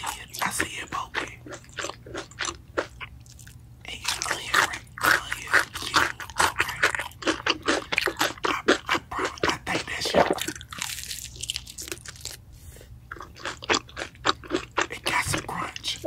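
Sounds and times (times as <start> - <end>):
crunchy chewing: 0.0 - 12.4, 13.1 - 16.0.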